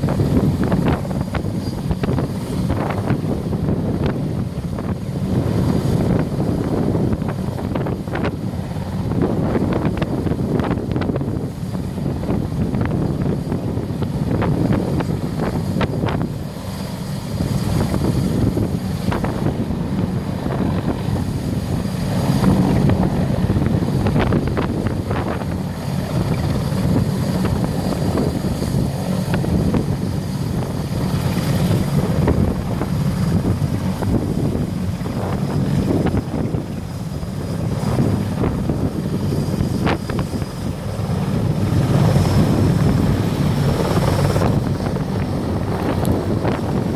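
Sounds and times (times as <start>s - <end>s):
helicopter rotors and engines: 0.0s - 46.9s
wind buffeting microphone: 0.0s - 46.9s.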